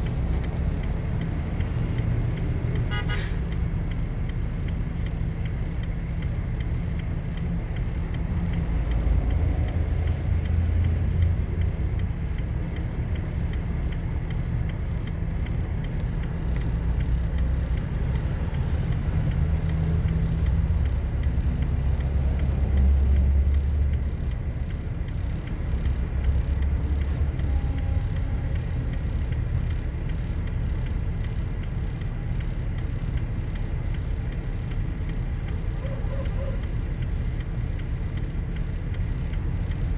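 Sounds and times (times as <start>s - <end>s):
low rumble of road vehicles: 0.0s - 39.9s.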